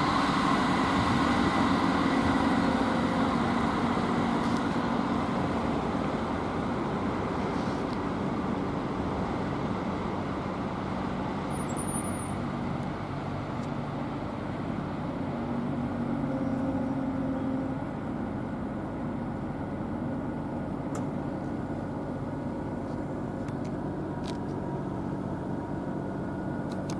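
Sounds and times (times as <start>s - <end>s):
vehicle rumble with low hum: 0.0s - 26.9s.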